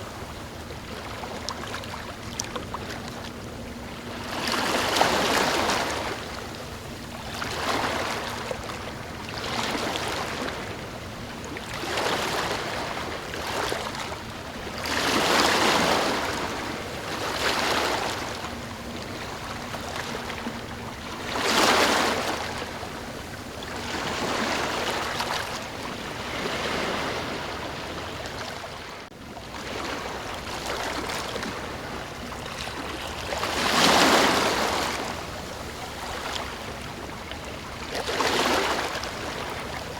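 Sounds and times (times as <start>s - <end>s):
ocean waves washing in: 2.8s - 39.9s.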